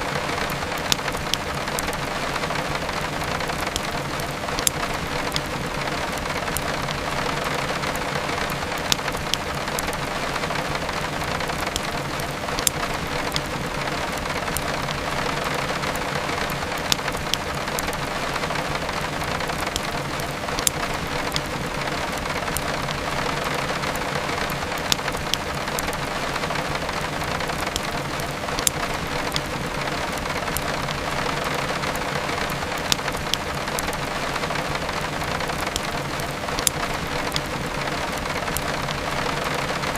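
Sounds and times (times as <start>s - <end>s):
heavy rain: 0.0s - 39.9s
wood fire crackling and popping: 0.0s - 39.9s.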